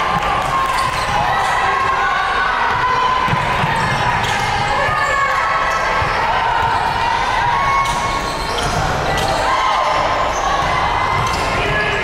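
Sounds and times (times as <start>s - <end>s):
arena noise: 0.0s - 12.0s.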